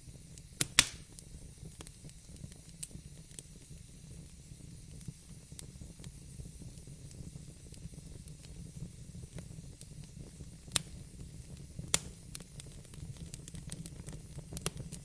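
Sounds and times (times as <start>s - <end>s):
sharp fire pops: 0.0s - 15.0s
wood fire burning: 0.0s - 15.0s.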